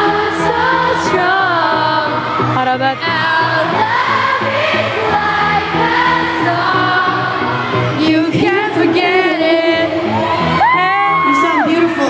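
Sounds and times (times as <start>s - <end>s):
woman singing pop song: 0.0s - 12.0s.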